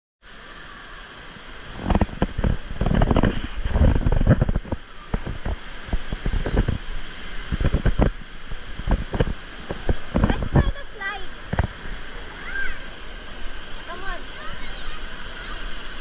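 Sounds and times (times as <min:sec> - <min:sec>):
fountain jets hissing: 0:00.3 - 0:16.0
water sloshing and splashing: 0:01.1 - 0:16.0.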